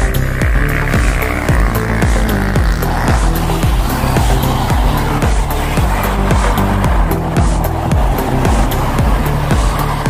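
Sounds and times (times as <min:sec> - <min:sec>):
bass line: 0:00.0 - 0:10.0.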